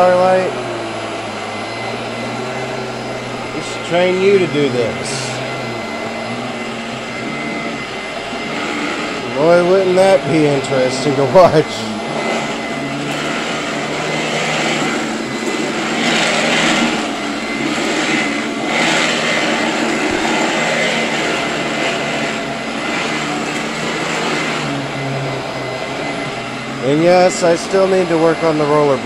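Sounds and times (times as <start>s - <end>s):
upright vacuum cleaner running: 0.0s - 29.0s.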